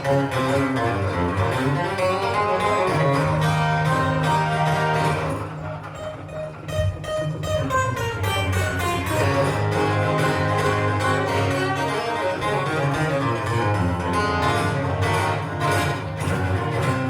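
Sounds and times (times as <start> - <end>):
guitar plucked and strummed: 0.0 - 17.0.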